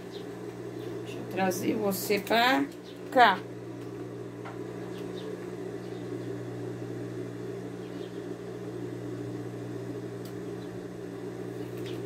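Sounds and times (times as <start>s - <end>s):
electric motor hum: 0.0s - 12.0s.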